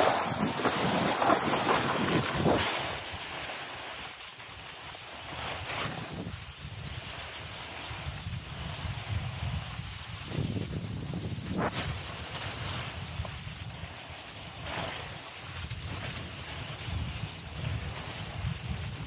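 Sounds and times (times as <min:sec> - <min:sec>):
wind buffeting microphone: 0:00.0 - 0:03.3, 0:05.8 - 0:19.0
snowboard scraping over snow: 0:00.0 - 0:19.0.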